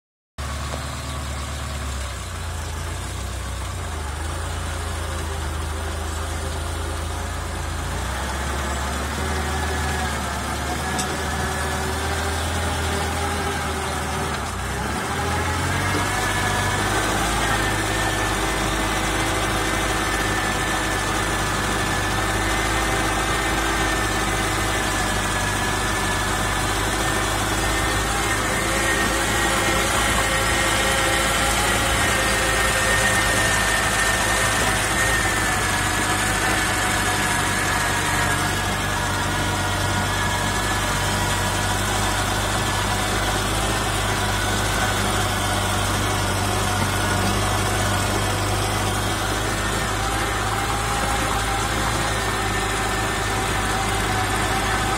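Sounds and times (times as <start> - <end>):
lawn mower engine running: 0.4 - 54.9.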